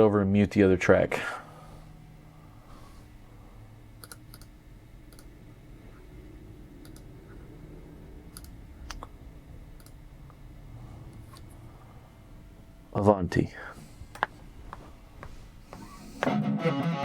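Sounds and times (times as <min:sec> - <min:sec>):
faint low hum: 0:00.0 - 0:16.3.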